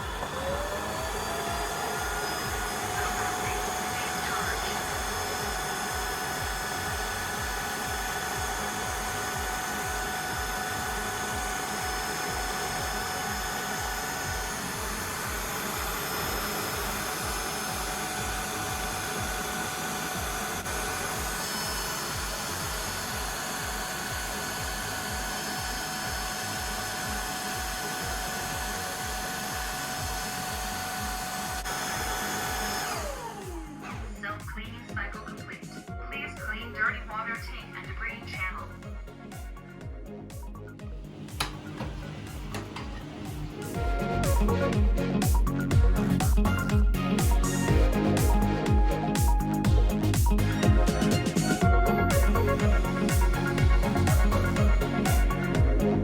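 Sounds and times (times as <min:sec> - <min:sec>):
suction hiss: 0:00.0 - 0:35.1, 0:41.1 - 0:56.0
floor washer motor whining: 0:00.0 - 0:56.0
low pulsing: 0:00.0 - 0:56.0.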